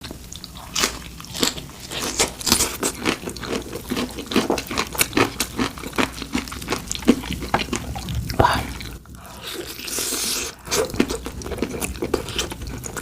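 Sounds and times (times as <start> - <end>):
crunching fried chicken: 0.2 - 13.0.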